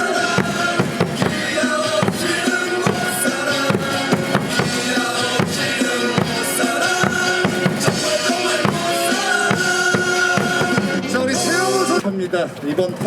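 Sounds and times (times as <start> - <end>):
cheer music with drum beat: 0.0 - 12.0.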